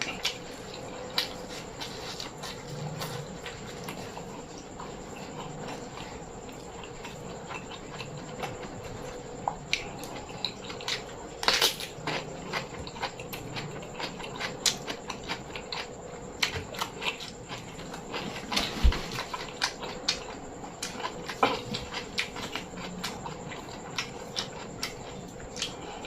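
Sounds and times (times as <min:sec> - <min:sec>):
chewing and mouth smacks: 0:00.0 - 0:25.9.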